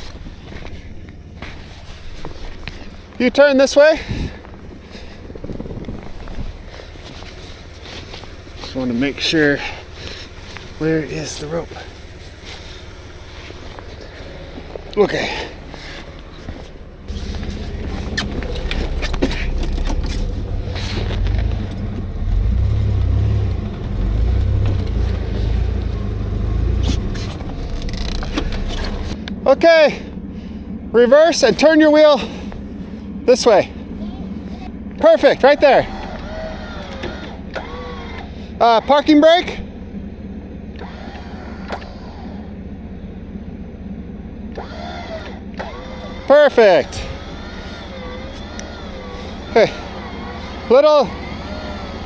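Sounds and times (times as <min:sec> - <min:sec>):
vehicle engine rumbling: 0:00.0 - 0:52.0.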